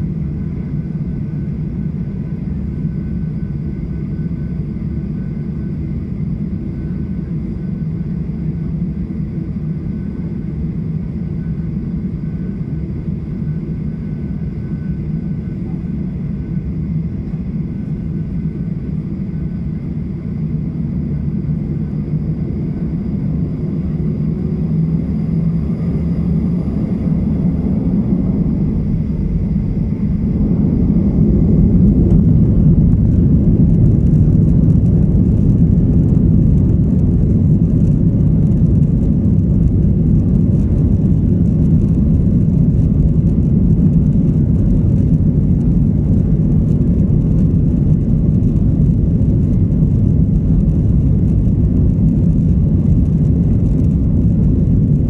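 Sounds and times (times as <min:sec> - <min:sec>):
airplane engine rumble: 0:00.0 - 0:55.0
faint steady whine: 0:00.0 - 0:55.0.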